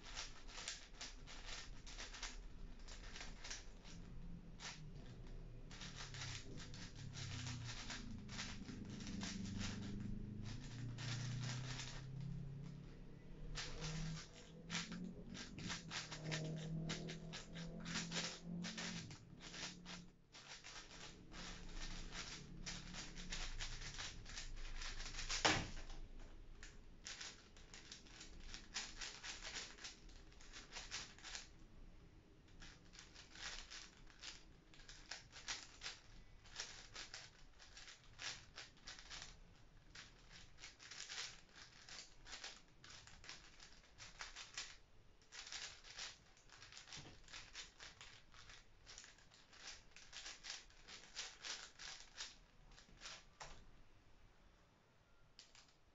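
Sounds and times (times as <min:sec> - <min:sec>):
puzzle cube clicking and rattling: 0:00.0 - 0:31.6, 0:32.4 - 0:53.4.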